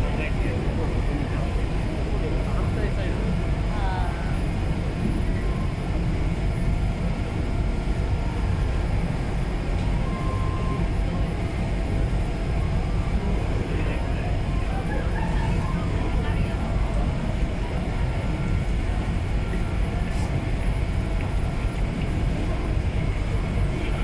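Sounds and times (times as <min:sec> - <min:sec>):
ferry engine low rumble: 0:00.0 - 0:24.0.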